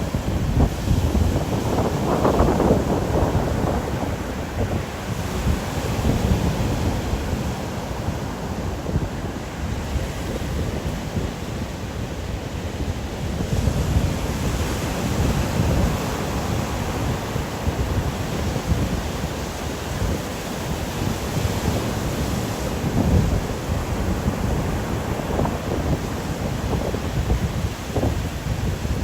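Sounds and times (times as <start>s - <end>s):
strong wind gusts: 0.0s - 29.0s.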